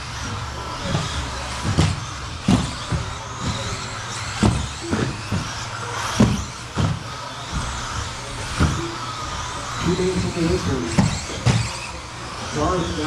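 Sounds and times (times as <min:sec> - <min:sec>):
electric toy car motors running: 0:00.0 - 0:13.0
toy cars thudding: 0:00.0 - 0:13.0.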